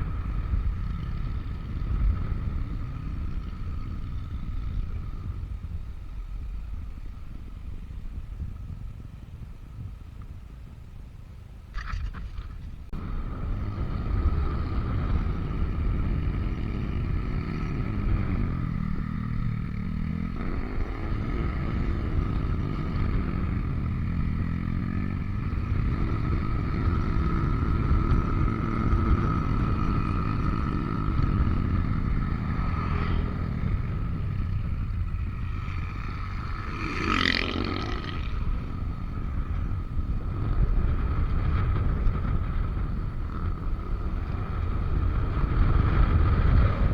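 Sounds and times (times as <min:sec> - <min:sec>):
scooter engine running: 0:00.0 - 0:09.9, 0:11.8 - 0:46.9
wind rumble on microphone: 0:00.0 - 0:46.9.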